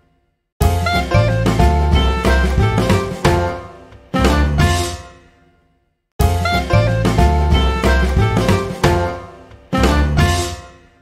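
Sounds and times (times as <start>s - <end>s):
bright tune with heavy bass: 0.6s - 5.1s, 6.2s - 10.7s.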